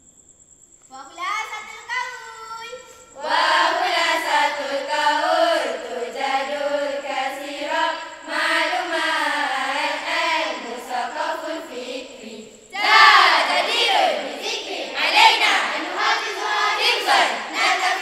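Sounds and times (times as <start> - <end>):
girls chanting in unison: 2.2 - 18.0.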